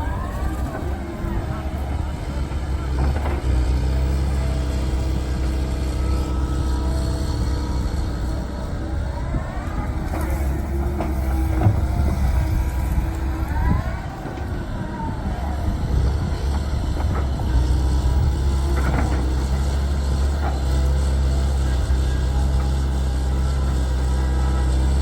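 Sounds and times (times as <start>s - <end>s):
excavator diesel engine running: 0.0s - 25.0s
hydraulic whine: 0.0s - 25.0s.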